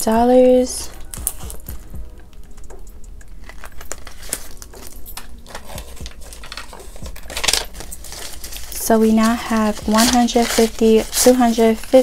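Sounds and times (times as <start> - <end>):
banknotes and plastic pouch rustling: 0.0 - 12.0.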